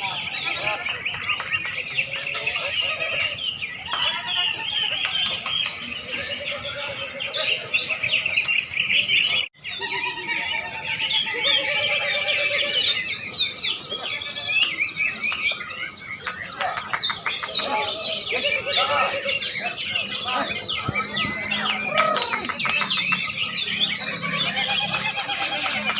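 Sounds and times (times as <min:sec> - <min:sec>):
songbirds chirping and trilling: 0:00.0 - 0:25.9.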